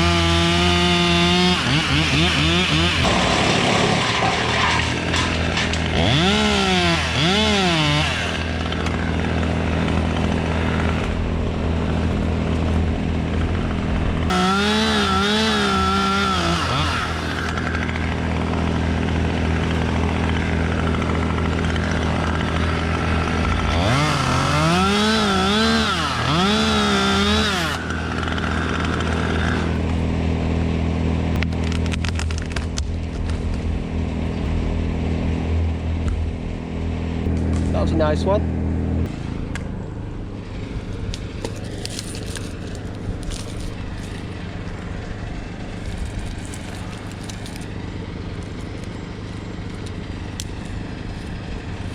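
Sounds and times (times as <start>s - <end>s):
chainsaw idling and revving: 0.0s - 33.4s, 34.0s - 51.9s.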